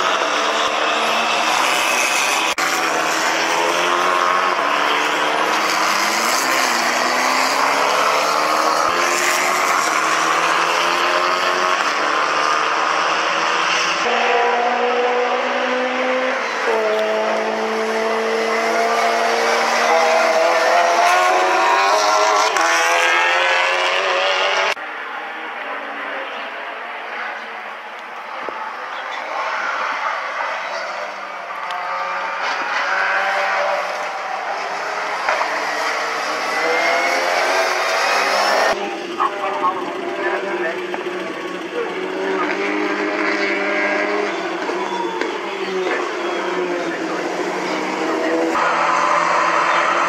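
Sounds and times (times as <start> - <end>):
race car engines at speed: 0.0 - 50.0.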